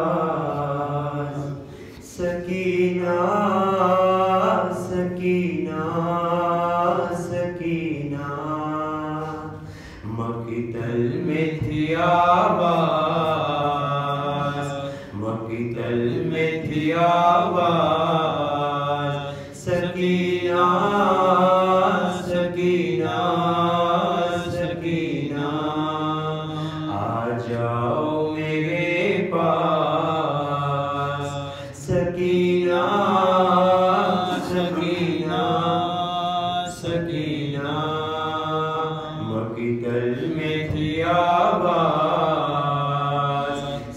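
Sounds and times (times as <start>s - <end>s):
man chanting: 0.0s - 43.9s.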